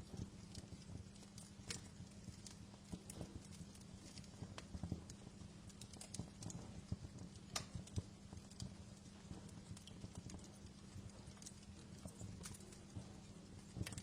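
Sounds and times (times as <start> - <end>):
faint steady hum: 0.0 - 14.0
wood fire crackling: 0.0 - 14.0.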